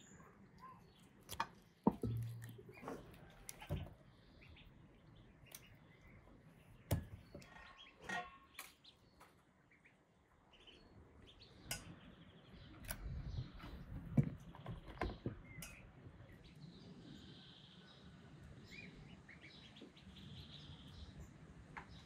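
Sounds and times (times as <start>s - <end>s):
faint bird chirping: 0.0s - 22.0s.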